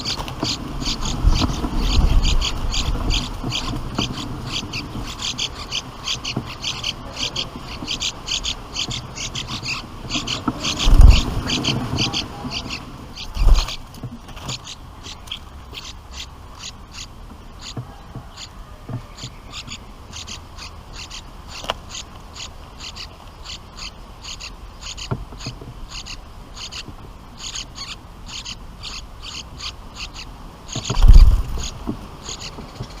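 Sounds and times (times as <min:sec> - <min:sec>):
nestlings begging chirps: 0:00.0 - 0:33.0.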